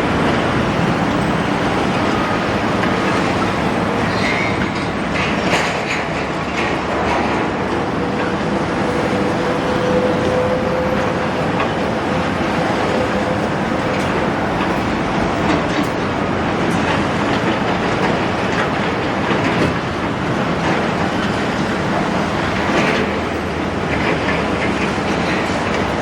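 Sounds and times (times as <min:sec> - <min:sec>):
excavator diesel engine: 0:00.0 - 0:26.0.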